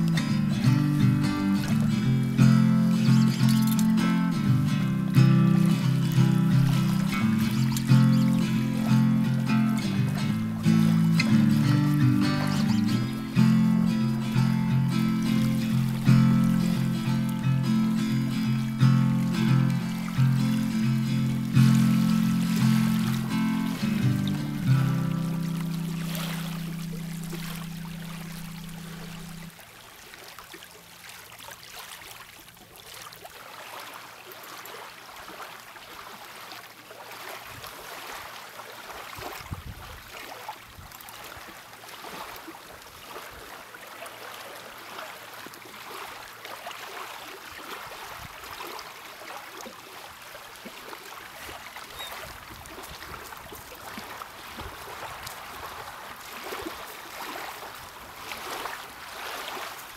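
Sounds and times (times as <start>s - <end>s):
water lapping on gravel: 0.0s - 59.9s.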